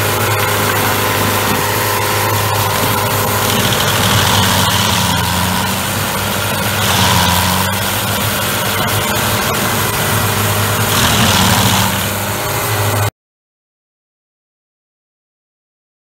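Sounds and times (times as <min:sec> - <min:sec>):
cutter wheel grinding wood: 0:00.0 - 0:13.1
stump grinder engine: 0:00.0 - 0:13.1.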